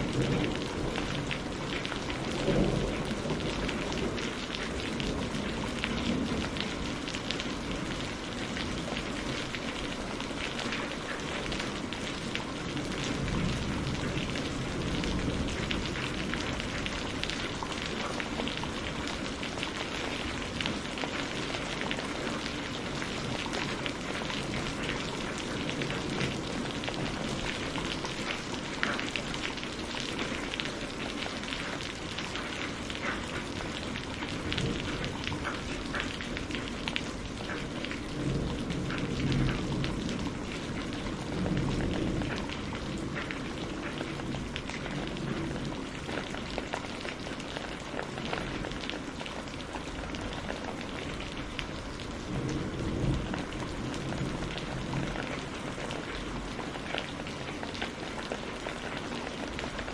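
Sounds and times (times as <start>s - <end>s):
hiss of downpour: 0.0s - 59.9s
raindrops ticking on hard surface: 0.0s - 59.9s.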